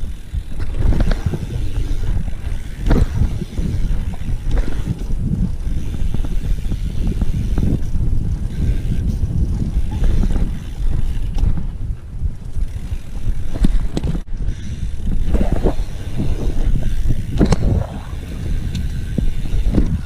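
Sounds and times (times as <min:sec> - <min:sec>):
bike knocks and rattles: 0:00.0 - 0:20.0
rolling bike tyres rumble: 0:00.0 - 0:20.0
wind buffeting microphone: 0:00.0 - 0:20.0.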